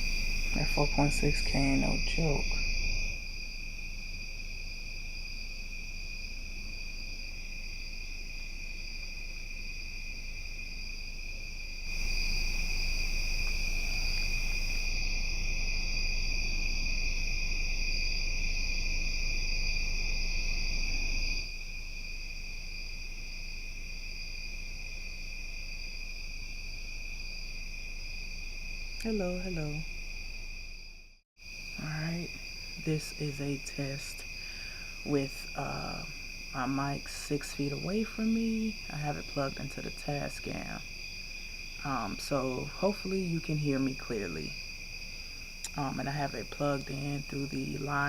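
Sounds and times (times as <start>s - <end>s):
background hiss: 0.0s - 48.0s
crickets trilling: 0.0s - 48.0s.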